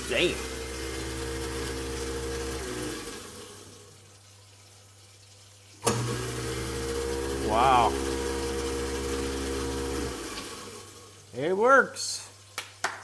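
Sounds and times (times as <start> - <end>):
garbage disposal motor humming: 0.0 - 11.8.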